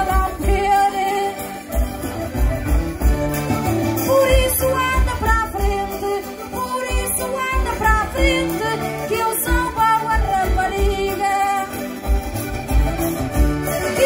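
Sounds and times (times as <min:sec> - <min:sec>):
accordions playing folk melody: 0:00.0 - 0:14.0.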